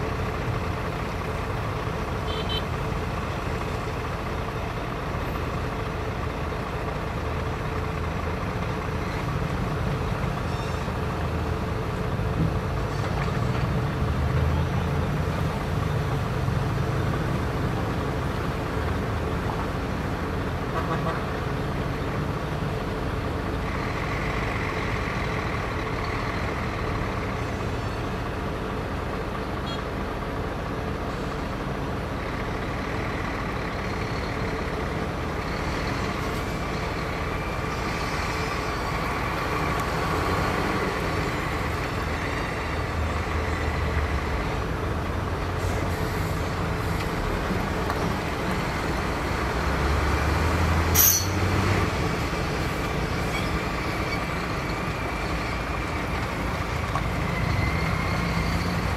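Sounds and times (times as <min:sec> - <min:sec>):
heavy diesel engine running: 0:00.0 - 0:58.9.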